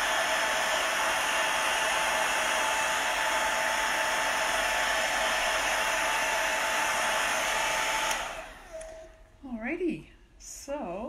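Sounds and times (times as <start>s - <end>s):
hair dryer running: 0.0s - 9.2s.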